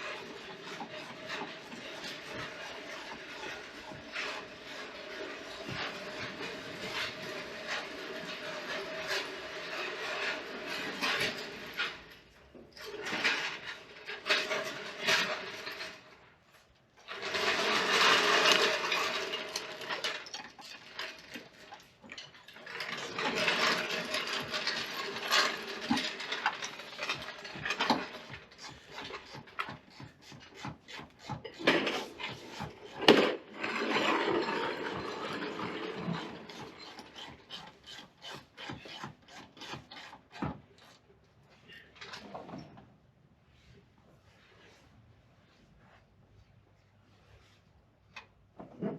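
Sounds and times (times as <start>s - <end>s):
rough scraping and rubbing: 0.0s - 12.1s, 12.8s - 41.0s.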